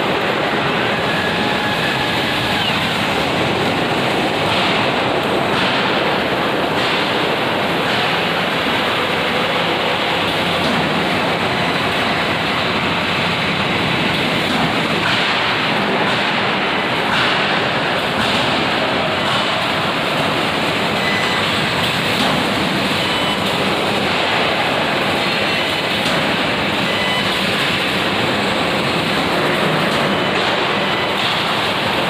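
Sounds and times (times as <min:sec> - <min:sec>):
continuous industrial rush: 0:00.0 - 0:32.0.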